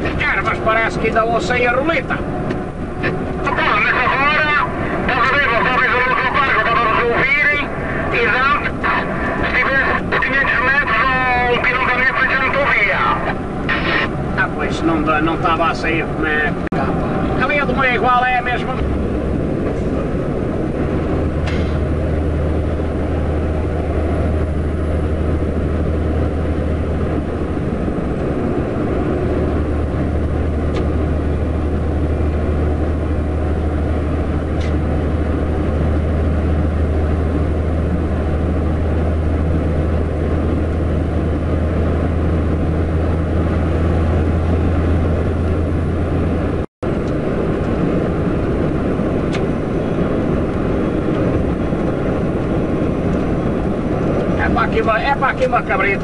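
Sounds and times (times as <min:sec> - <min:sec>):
truck diesel engine droning: 0:00.0 - 0:56.0
tyre and road noise: 0:00.0 - 0:56.0.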